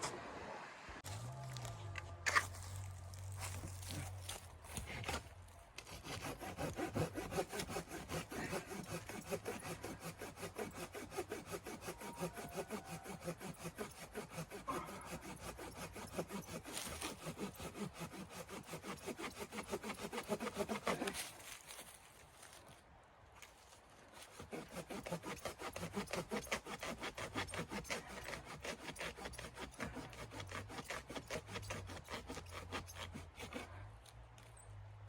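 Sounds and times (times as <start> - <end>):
hand saw cutting wood: 3.2 - 22.6, 24.2 - 34.2.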